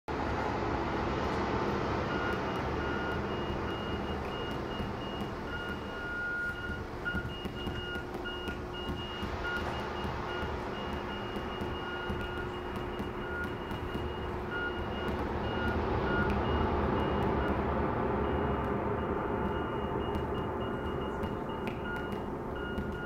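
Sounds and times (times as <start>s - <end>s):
high synthesized beeps: 2.1s - 17.6s, 18.2s - 23.0s.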